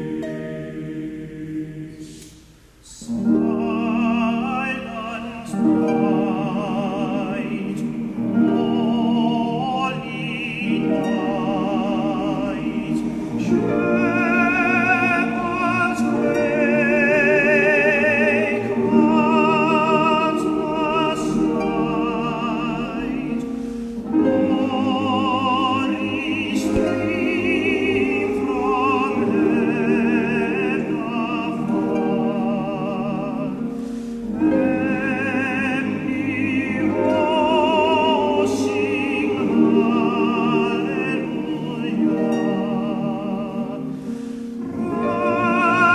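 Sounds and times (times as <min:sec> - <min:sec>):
classical singing with vibrato: 0:00.0 - 0:45.9.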